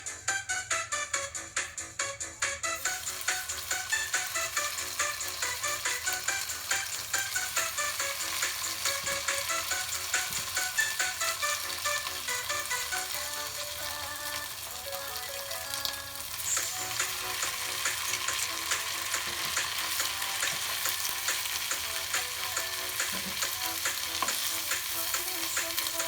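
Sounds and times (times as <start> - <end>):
food sizzling in hot oil: 2.8 - 26.0.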